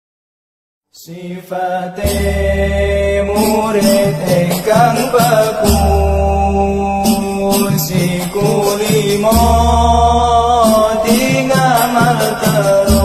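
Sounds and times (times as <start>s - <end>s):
person singing ornamented melody: 1.0s - 13.0s
pitched instrumental accompaniment: 2.1s - 13.0s.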